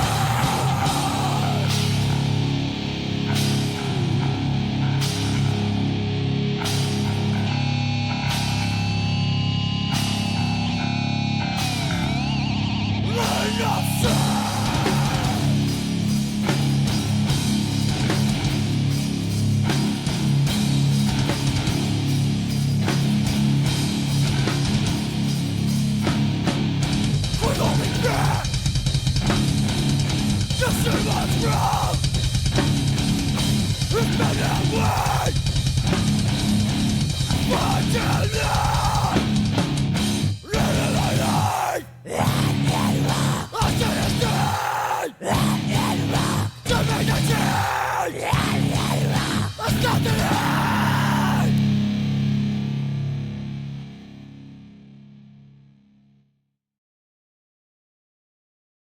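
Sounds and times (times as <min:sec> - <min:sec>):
drum kit: 0:00.0 - 0:12.5, 0:13.1 - 0:44.7, 0:45.3 - 0:52.5
heavy metal band playing: 0:00.0 - 0:55.2
distorted electric guitars: 0:00.0 - 0:56.0.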